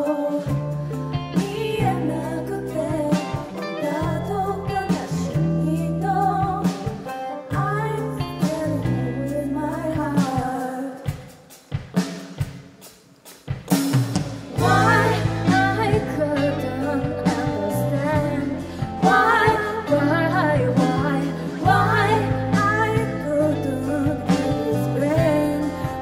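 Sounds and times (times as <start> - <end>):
women singing: 0.0 - 11.1, 14.6 - 26.0
pop backing music with drums: 0.0 - 26.0.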